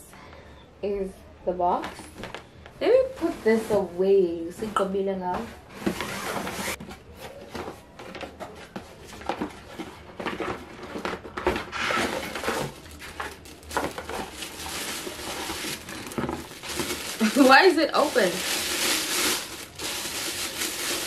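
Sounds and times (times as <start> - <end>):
boxes and packaging handled: 1.8 - 21.0.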